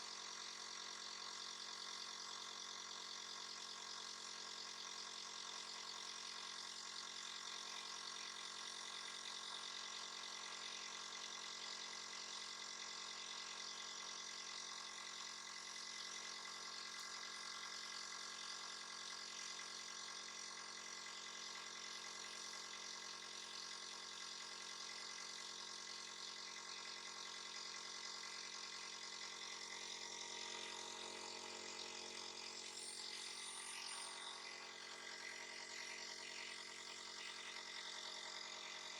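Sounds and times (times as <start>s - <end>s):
small motor humming: 0.0s - 38.9s.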